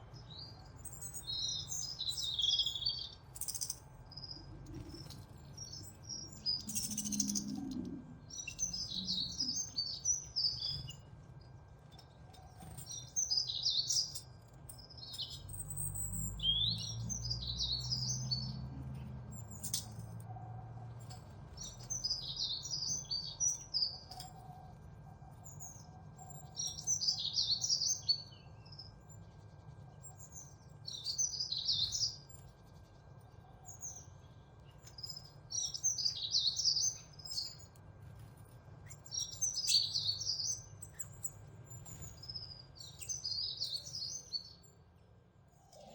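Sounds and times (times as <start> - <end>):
birds chirping: 0.0 - 18.6, 21.0 - 37.8, 38.8 - 44.8.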